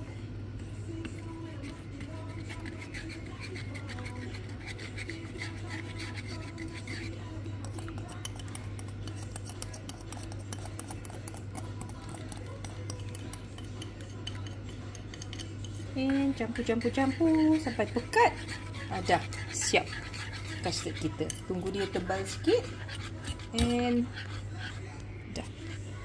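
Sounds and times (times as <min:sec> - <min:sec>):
steady low hum: 0:00.0 - 0:26.0
whisk scraping metal saucepan: 0:00.9 - 0:26.0.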